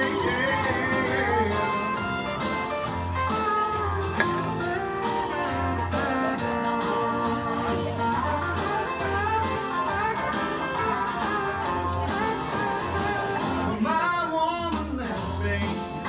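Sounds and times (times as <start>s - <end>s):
bass and drum beat: 0.0s - 16.0s.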